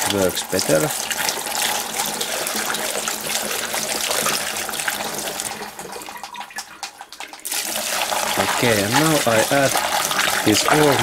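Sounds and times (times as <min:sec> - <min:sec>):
fuel pouring through funnel: 0:00.0 - 0:11.0.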